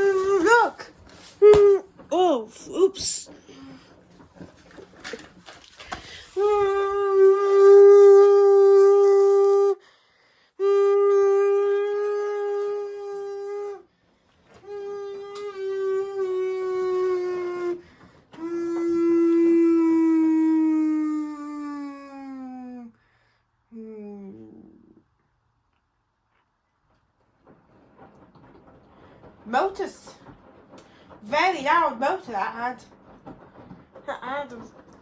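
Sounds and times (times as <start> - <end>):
washing machine motor whining: 0.0 - 9.8, 10.6 - 23.0, 26.8 - 35.0.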